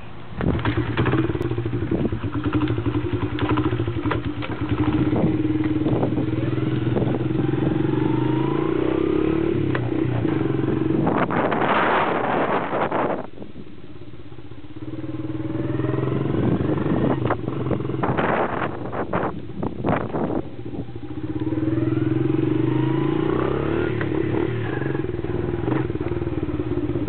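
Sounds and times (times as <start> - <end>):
dirt bike engine running: 0.4 - 27.0.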